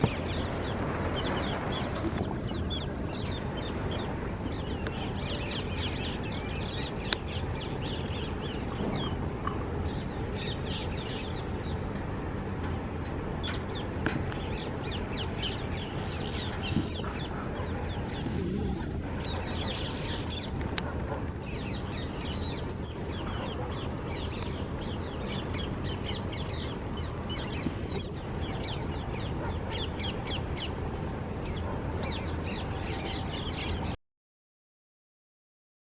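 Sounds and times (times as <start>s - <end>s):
caged birds chirping: 0.0s - 34.0s
low background noise: 0.0s - 34.0s.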